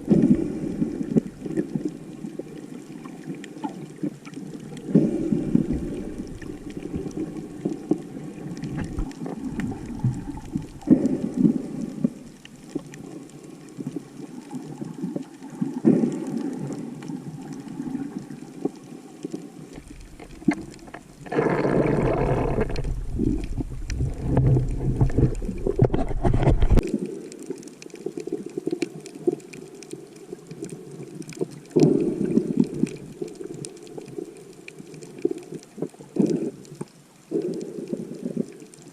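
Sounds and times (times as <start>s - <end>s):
muffled water sloshing underwater: 0.0s - 38.9s.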